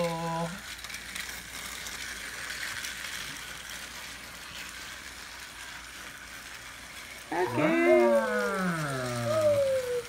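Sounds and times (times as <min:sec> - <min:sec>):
toy trains whirring and rattling: 0:00.0 - 0:10.0.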